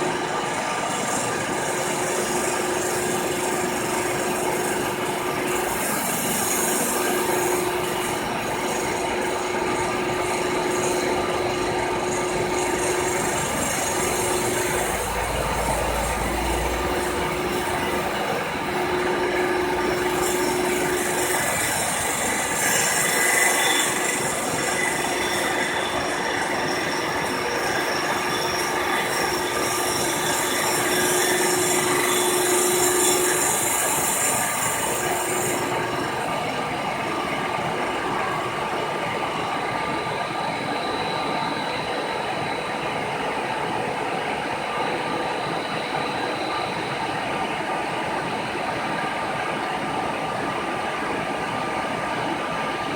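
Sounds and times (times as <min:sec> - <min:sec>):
milling machine grinding metal: 0:00.0 - 0:49.2.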